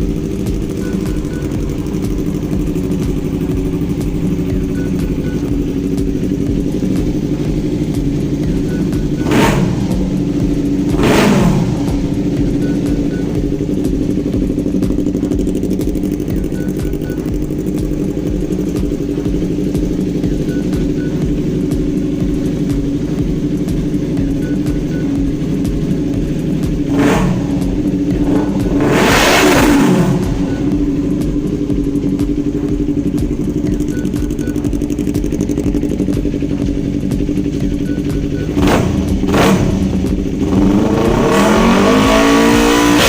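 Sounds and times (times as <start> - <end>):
motorcycle engine idling and revving: 0.0 - 43.0.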